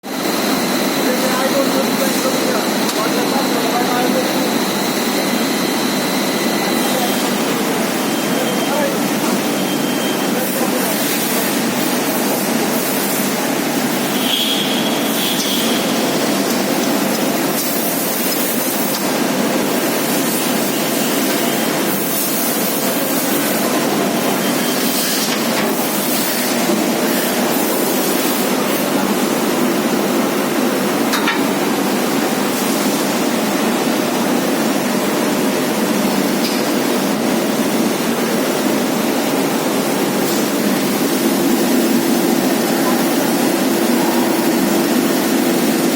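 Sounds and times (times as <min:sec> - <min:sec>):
spraying water and machinery hiss: 0:00.1 - 0:45.9.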